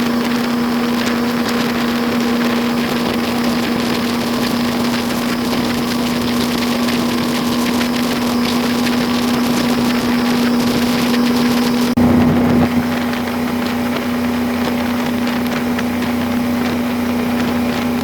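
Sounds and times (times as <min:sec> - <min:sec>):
motorboat engine humming: 0:00.0 - 0:18.0
rushing water hiss: 0:00.0 - 0:18.0.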